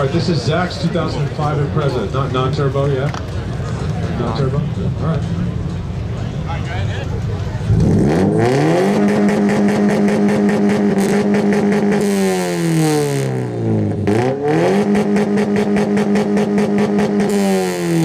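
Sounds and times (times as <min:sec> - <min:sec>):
car engine revving: 0:01.2 - 0:18.0.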